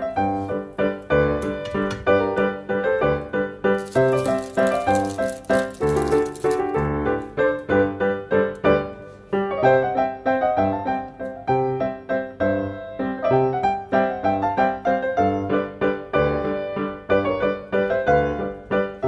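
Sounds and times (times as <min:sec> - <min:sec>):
bouncy piano tune: 0:00.0 - 0:19.0.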